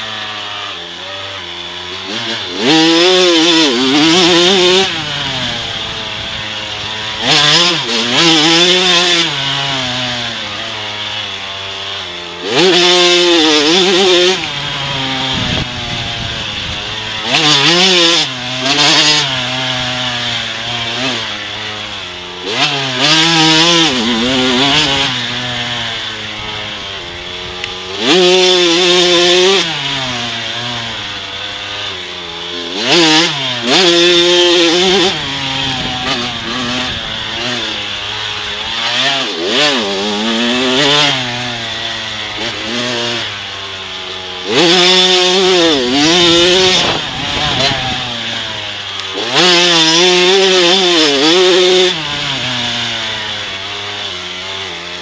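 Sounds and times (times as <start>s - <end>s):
two-stroke motorcycle engine revving: 0.0s - 55.0s.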